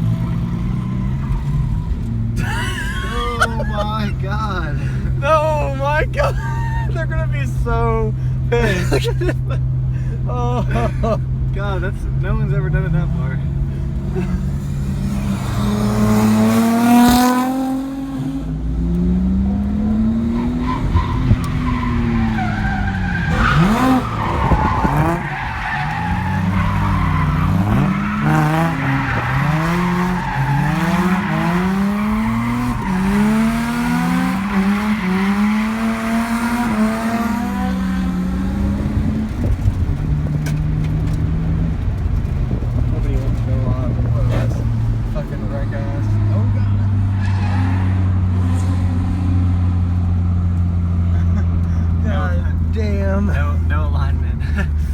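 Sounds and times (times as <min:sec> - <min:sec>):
car engine revving: 0:00.0 - 0:54.9
tires squealing: 0:00.0 - 0:54.9.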